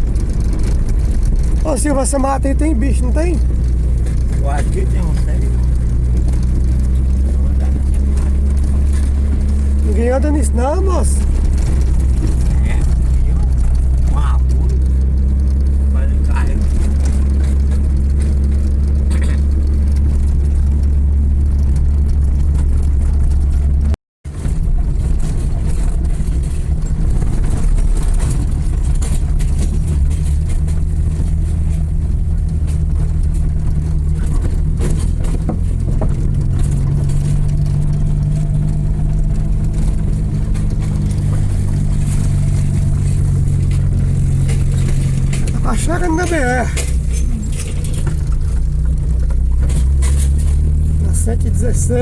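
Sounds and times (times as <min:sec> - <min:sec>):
road noise: 0:00.0 - 0:52.0
vehicle engine droning: 0:00.0 - 0:52.0.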